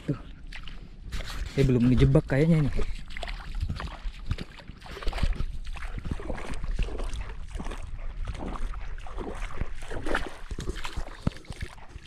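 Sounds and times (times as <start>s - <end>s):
footsteps wading through water: 0.0s - 12.0s
water splashing: 0.0s - 12.0s.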